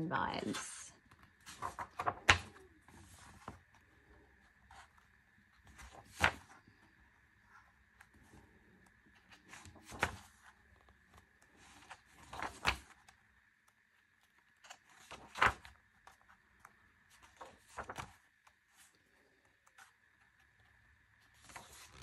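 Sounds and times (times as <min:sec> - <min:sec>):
pages turning: 0:00.5 - 0:22.0.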